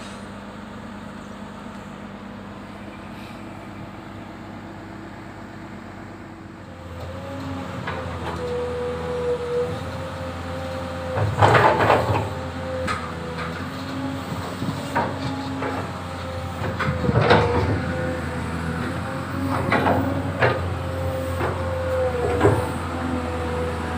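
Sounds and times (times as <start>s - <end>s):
excavator engine droning: 0.0s - 23.9s.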